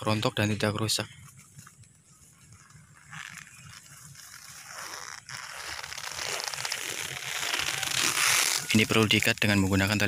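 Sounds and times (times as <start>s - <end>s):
leaves and plastic string rustling: 0.0s - 10.0s.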